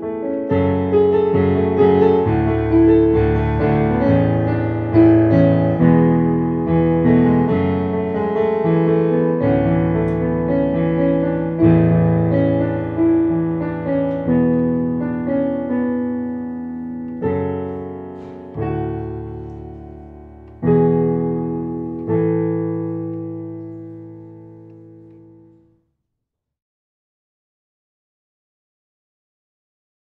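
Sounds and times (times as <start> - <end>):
piano chords: 0.0 - 25.7.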